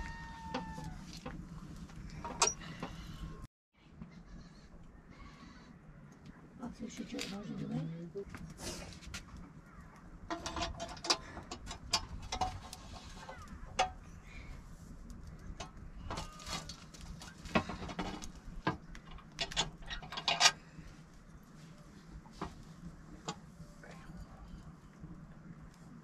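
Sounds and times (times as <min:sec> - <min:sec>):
fire crackling: 0:00.0 - 0:03.5, 0:06.2 - 0:20.0, 0:20.6 - 0:26.0.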